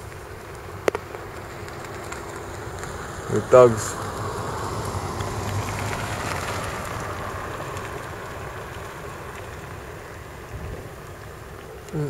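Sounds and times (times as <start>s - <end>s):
car passing on road: 0.0s - 11.9s.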